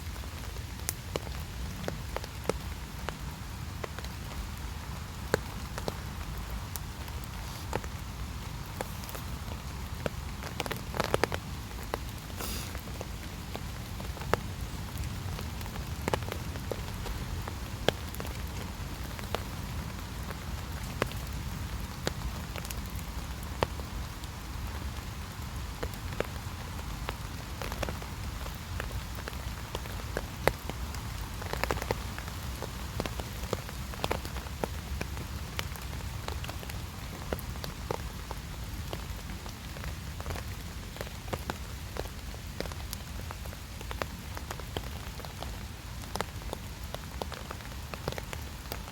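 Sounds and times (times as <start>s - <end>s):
raindrops ticking on a surface: 0.0s - 48.9s
steady rain falling: 0.0s - 48.9s.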